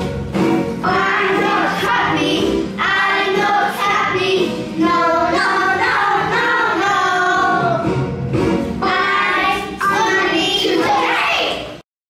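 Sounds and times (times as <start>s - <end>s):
children singing together: 0.8s - 8.0s, 8.8s - 11.8s.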